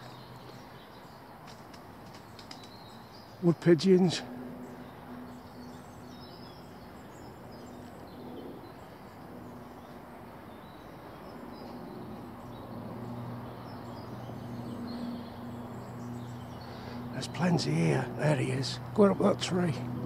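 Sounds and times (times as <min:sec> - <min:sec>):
faint distant bird calls: 0:00.0 - 0:20.0.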